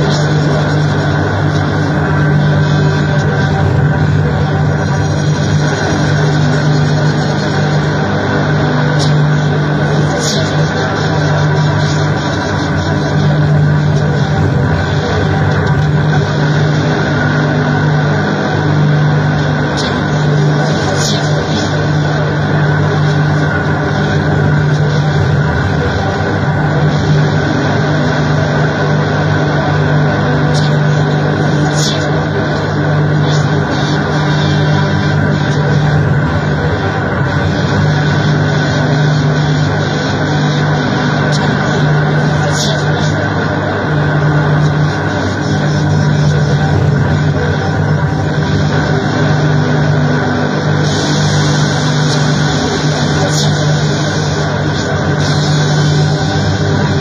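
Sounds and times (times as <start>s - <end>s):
dense noise music: 0.0s - 57.0s
low droning hum: 0.0s - 57.0s.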